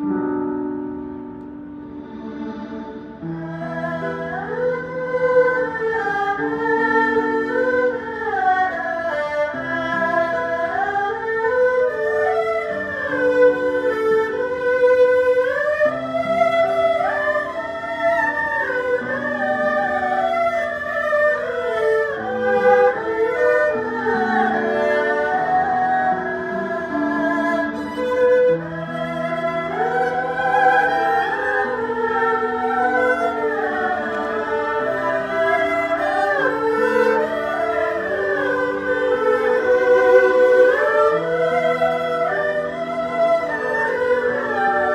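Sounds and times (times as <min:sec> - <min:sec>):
bowed string ensemble: 0:00.0 - 0:44.9.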